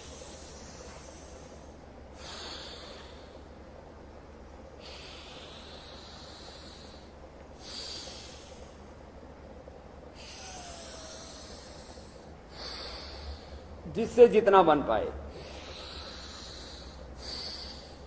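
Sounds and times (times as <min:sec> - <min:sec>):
man breathing through the nose: 0:00.0 - 0:03.7, 0:04.7 - 0:09.2, 0:10.1 - 0:13.8, 0:15.3 - 0:18.0
steady low hum: 0:00.0 - 0:18.0.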